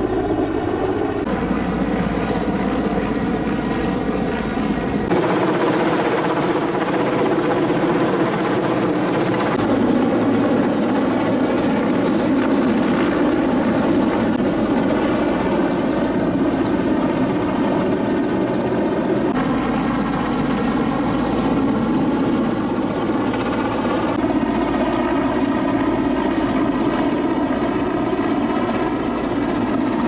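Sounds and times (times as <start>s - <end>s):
helicopter running: 0.0s - 30.0s.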